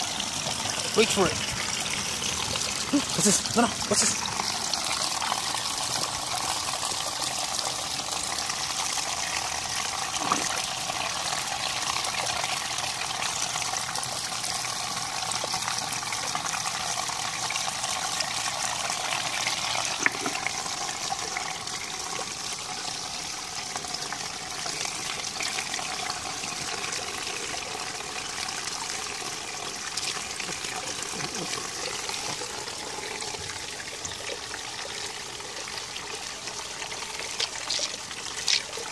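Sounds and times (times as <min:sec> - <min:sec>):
fountain water splashing: 0:00.0 - 0:38.9.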